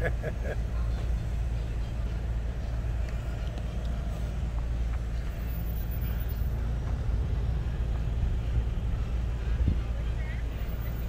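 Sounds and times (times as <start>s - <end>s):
slow car traffic: 0.0s - 11.0s.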